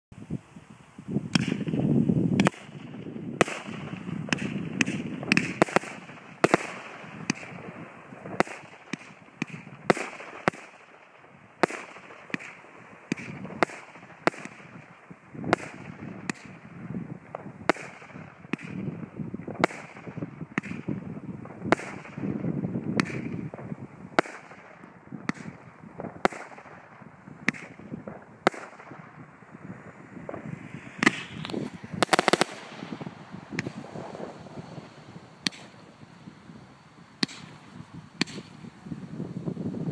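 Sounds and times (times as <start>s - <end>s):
firework hissing: 0.9s - 39.8s
firework bangs: 1.3s - 38.7s.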